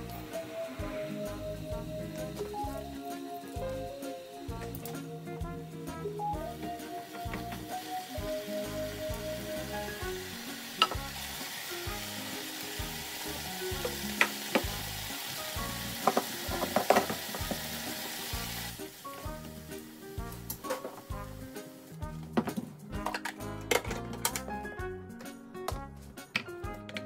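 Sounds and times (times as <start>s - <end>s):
meat sizzling in a frying pan: 0.0s - 22.0s
soft background music: 0.0s - 27.0s.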